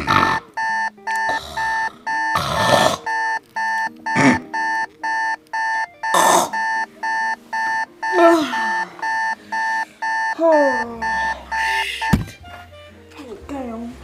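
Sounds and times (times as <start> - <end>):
alarm beeping: 0.0 - 12.7.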